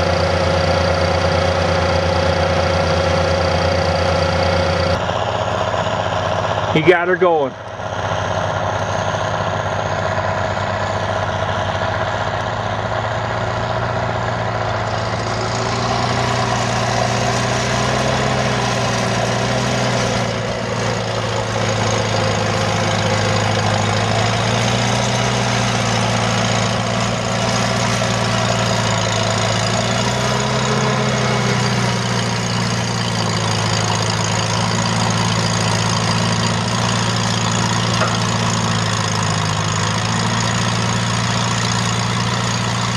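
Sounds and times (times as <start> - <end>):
tractor engine running under load: 0.0 - 42.9.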